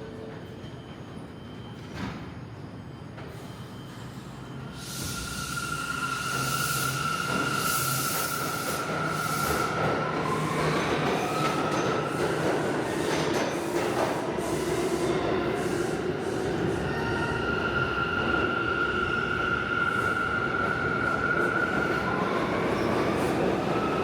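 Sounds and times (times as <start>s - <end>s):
subway train rumble: 0.0s - 24.0s.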